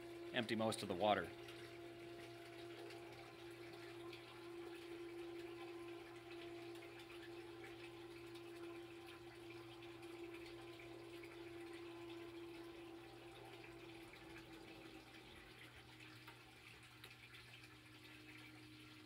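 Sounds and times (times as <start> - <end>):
sump pump humming: 0.0 - 19.0
water pouring and splashing: 0.0 - 19.0.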